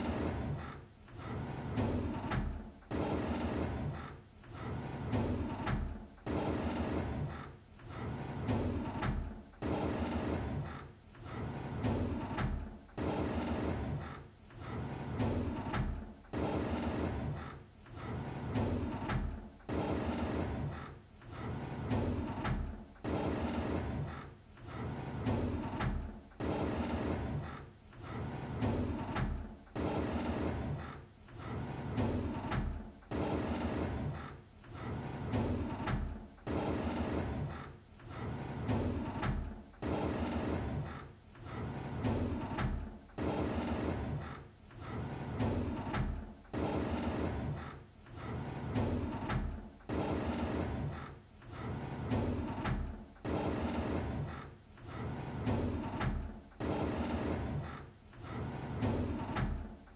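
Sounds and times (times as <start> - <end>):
drawer sliding open: 0.0 - 9.4, 10.0 - 59.9.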